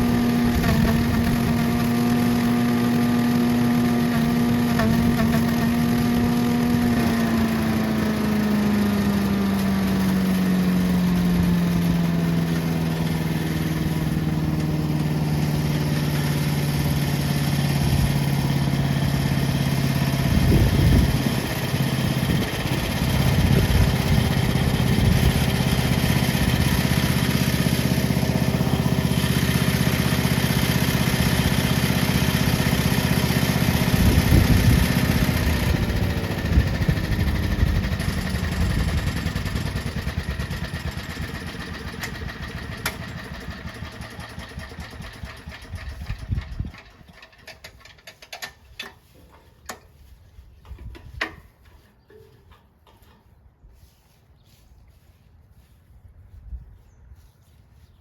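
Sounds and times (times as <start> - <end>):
gas engine running: 0.0 - 48.6
leaves clattering through shredder: 0.0 - 50.1.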